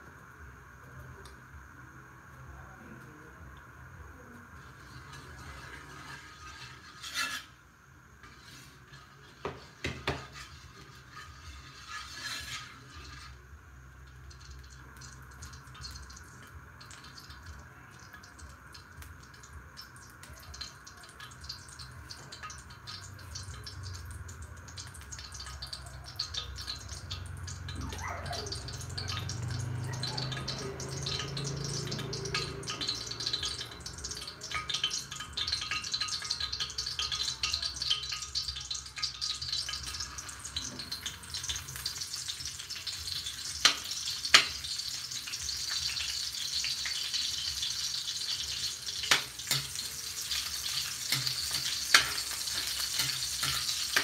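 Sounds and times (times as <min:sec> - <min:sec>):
oil crackling and sizzling: 0:00.0 - 0:54.0.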